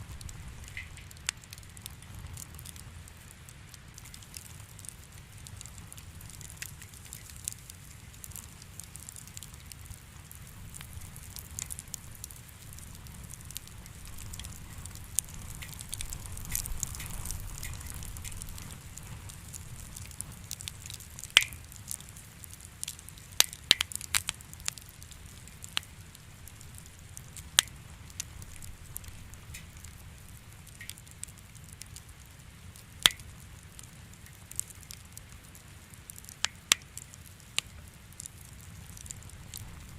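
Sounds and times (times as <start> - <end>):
fire popping and snapping: 0.0 - 39.9
wood fire crackling: 0.0 - 39.9.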